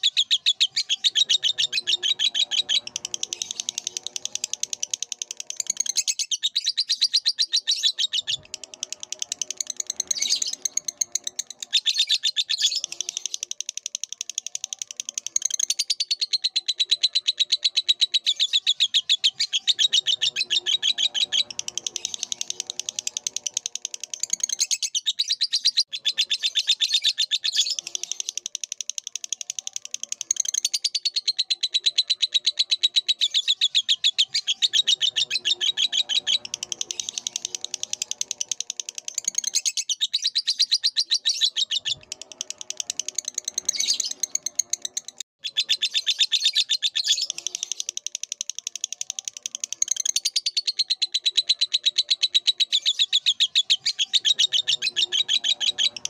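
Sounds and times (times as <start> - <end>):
lovebird chirping and trilling: 0.0 - 56.0.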